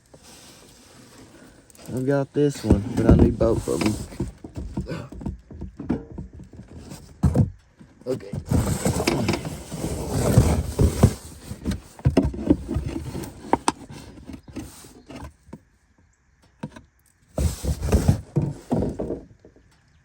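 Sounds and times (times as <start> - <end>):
containers being handled: 0.0 - 15.4, 17.4 - 19.2.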